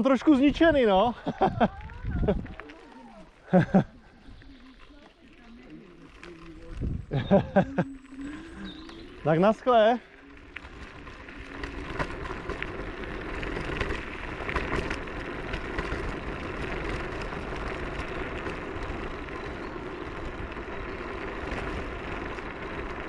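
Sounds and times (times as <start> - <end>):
scooter tyres rumbling: 0.0 - 23.0.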